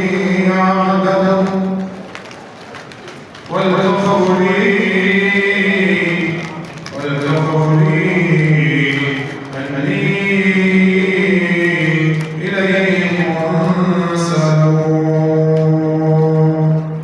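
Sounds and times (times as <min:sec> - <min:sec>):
man chanting unaccompanied: 0:00.0 - 0:02.1, 0:03.5 - 0:17.0.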